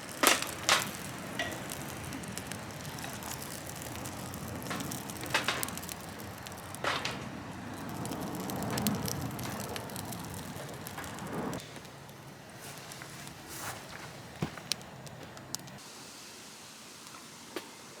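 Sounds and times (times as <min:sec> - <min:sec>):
fire popping: 0:00.0 - 0:15.8
wood fire crackling: 0:00.0 - 0:15.9.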